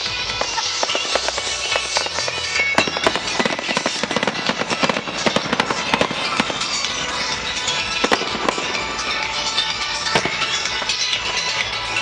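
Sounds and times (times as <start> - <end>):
fireworks bangs and pops: 0.0 - 11.8
music playing: 0.0 - 12.0.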